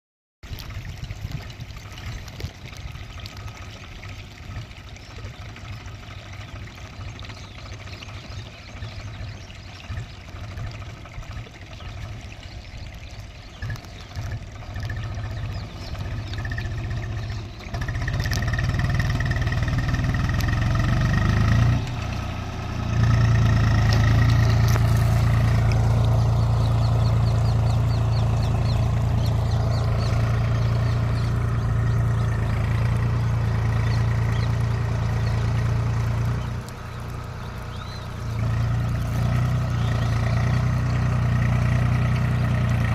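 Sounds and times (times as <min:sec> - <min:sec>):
tractor engine running: 0:00.5 - 0:42.9.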